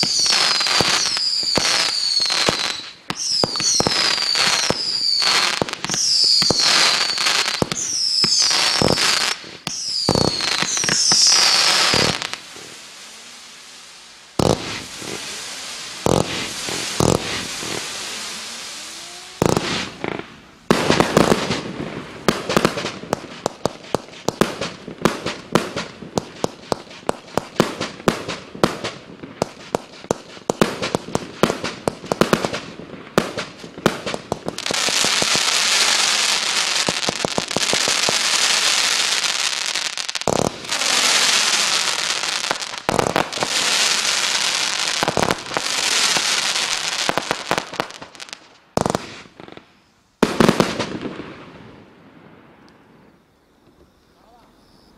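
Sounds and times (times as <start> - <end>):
firework shots and bangs: 0.0 - 12.7, 14.4 - 49.6, 50.2 - 51.6
firework crackling hiss: 0.0 - 54.3.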